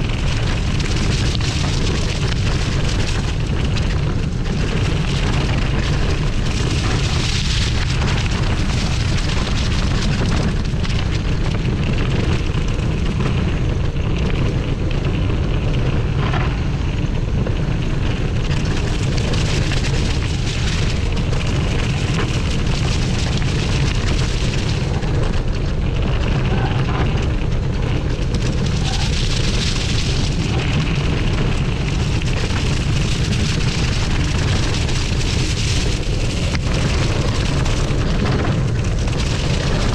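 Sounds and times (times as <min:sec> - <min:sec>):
bike tyres rolling over leaves: 0:00.0 - 0:39.9
wind rumble on microphone: 0:00.0 - 0:39.9.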